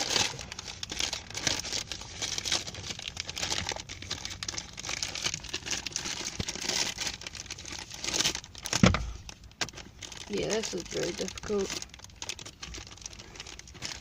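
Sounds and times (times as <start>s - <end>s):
plastic packaging crinkling and tearing: 0.0s - 14.0s.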